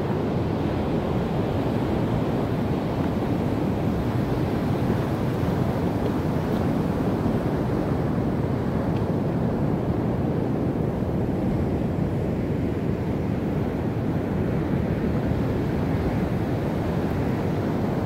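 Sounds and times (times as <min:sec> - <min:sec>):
ocean surf rumble: 0:00.0 - 0:18.0.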